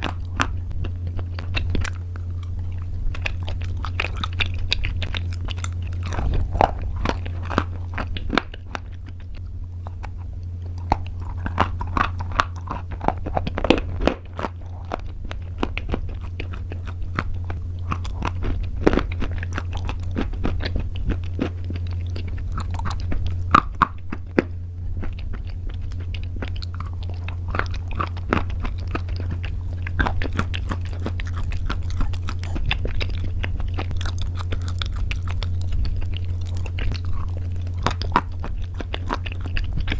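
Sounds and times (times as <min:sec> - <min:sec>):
crunchy pasta chewing crackles: 0:00.0 - 0:39.9
steady low hum: 0:00.0 - 0:39.9.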